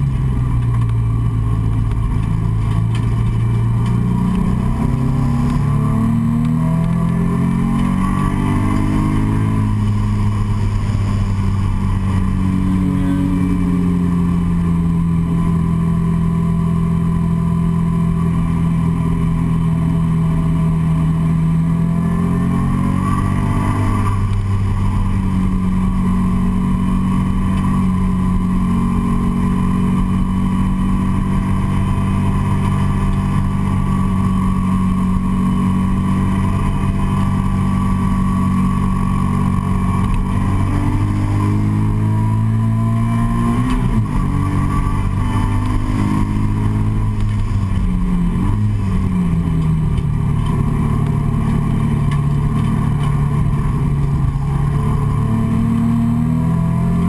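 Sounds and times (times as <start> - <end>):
car engine pulling hard: 0.0 - 57.0.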